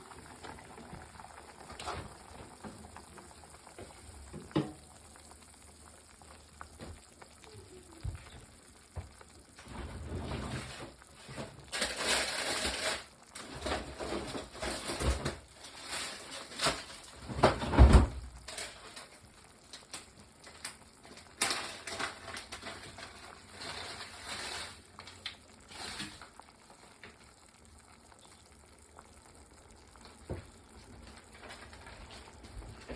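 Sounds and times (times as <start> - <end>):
food sizzling in a pan: 0.0 - 32.9.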